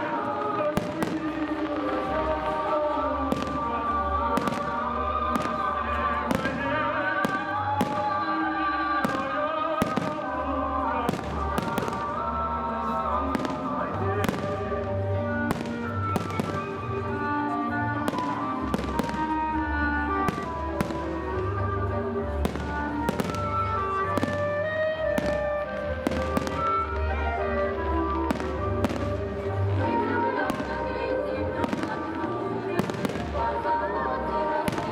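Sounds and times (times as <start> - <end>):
fireworks bursting with sharp bangs: 0.0 - 33.8, 34.5 - 34.9.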